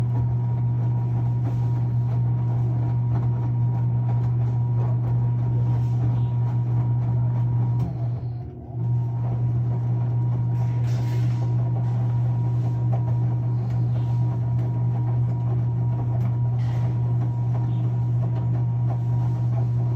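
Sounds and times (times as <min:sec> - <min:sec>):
washing machine humming: 0:00.0 - 0:19.9.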